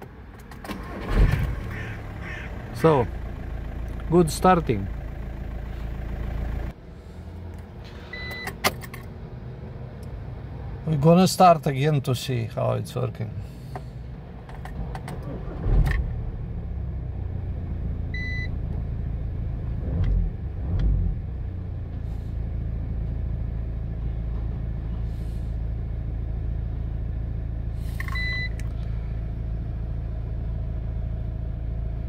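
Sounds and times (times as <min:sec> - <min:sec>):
diesel engine idling: 0:00.7 - 0:11.0, 0:12.2 - 0:19.7, 0:21.2 - 0:32.0.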